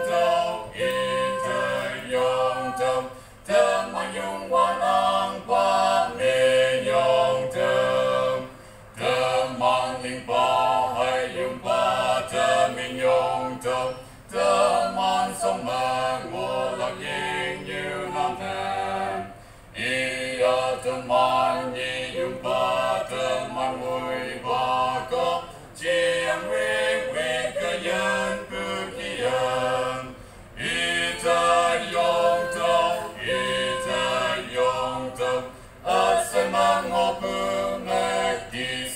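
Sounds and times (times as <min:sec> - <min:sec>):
quartet singing in harmony: 0:00.0 - 0:38.9.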